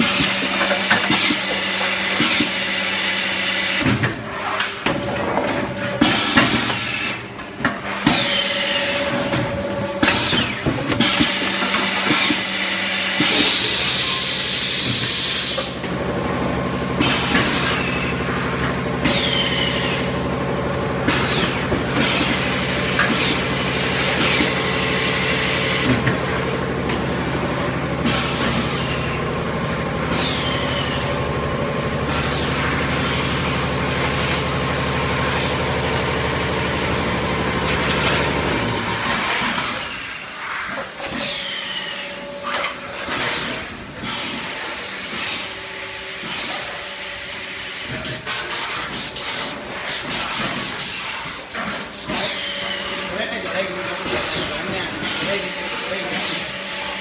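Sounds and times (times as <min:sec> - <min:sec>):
pressing machine hum: 0:00.0 - 0:48.1.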